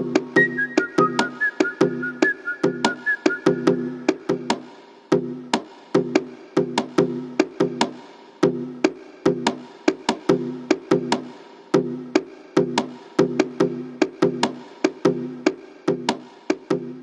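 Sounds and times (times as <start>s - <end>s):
music with fast clicking beat: 0.0s - 17.0s.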